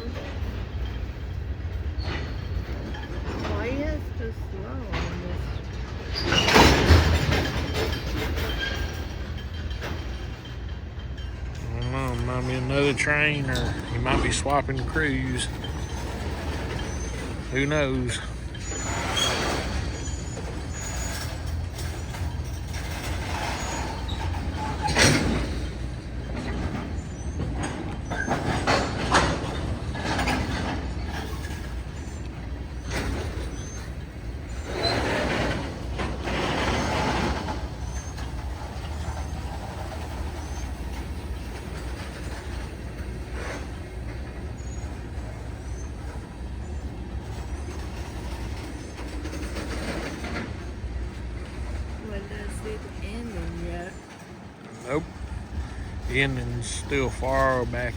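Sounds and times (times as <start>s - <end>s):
freight train rumbling: 0.0s - 57.9s.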